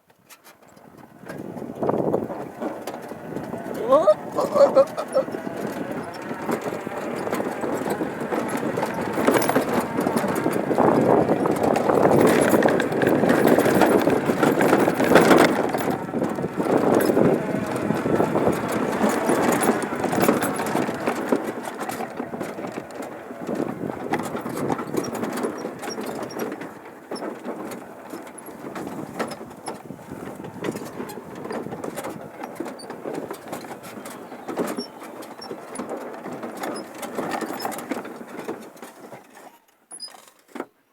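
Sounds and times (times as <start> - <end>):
tractor body rattling: 0.2 - 40.7.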